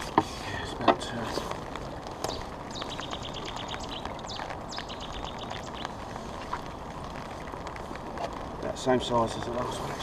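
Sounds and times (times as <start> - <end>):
rain on an umbrella: 0.0 - 10.0
rapid high ticking: 1.6 - 9.6.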